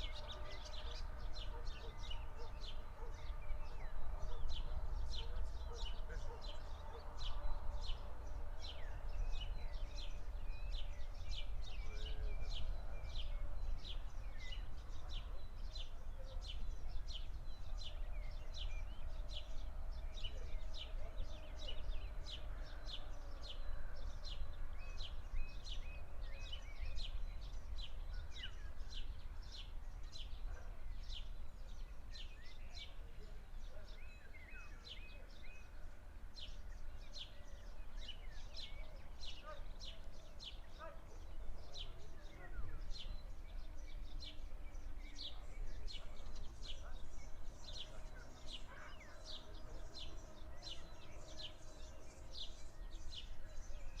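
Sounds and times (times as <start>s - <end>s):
songbird chirping: 0.0s - 54.0s.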